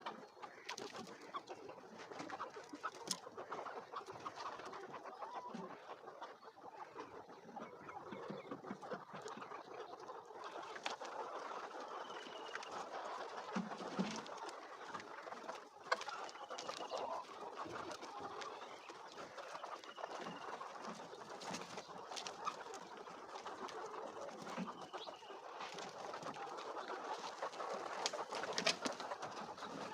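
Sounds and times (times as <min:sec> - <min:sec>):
hens clucking: 0:00.0 - 0:29.9.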